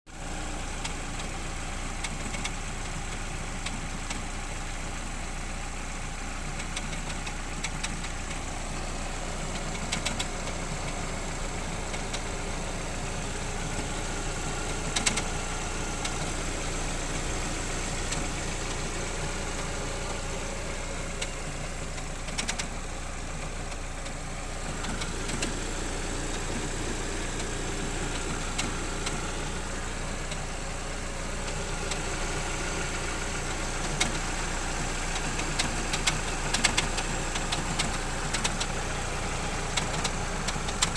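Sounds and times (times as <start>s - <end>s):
motorcycle engine idling: 0.4s - 40.9s.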